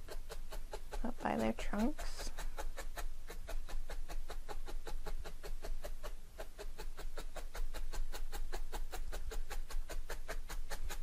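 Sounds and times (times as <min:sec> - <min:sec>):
felting needle poking wool: 0:00.0 - 0:11.0.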